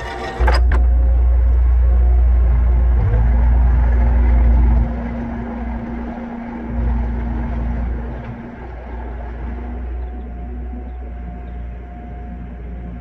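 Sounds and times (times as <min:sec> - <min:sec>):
skid steer engine rumble: 0:00.0 - 0:13.0
steady hum: 0:00.0 - 0:13.0.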